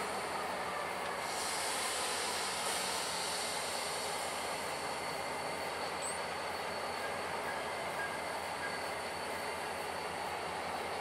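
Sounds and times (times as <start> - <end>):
diesel locomotive engines running: 0.0 - 11.0
steady hiss: 0.0 - 11.0.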